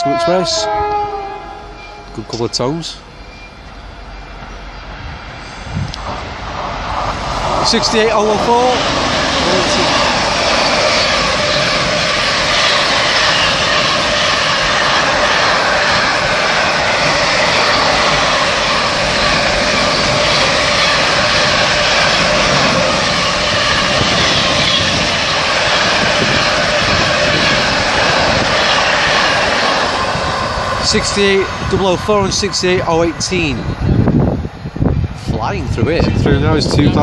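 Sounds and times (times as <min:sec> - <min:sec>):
freight train wheels on rail: 0:00.0 - 0:37.0.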